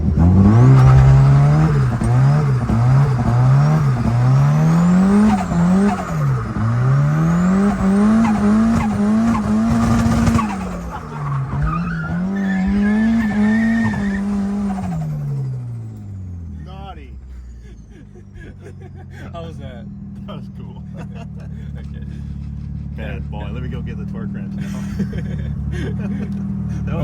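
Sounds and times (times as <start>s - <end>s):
car engine revving: 0.0s - 27.0s
tires squealing: 0.0s - 27.0s.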